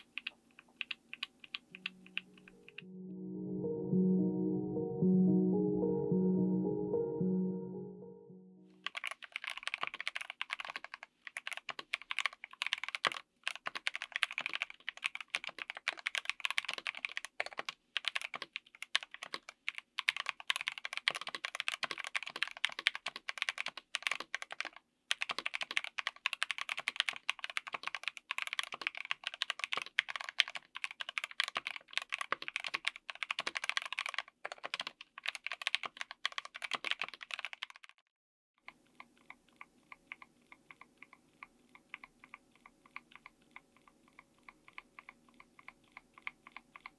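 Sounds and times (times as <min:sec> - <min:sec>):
fast typing on mechanical keyboard: 0:00.0 - 0:02.3, 0:08.8 - 0:38.0, 0:38.6 - 0:46.9.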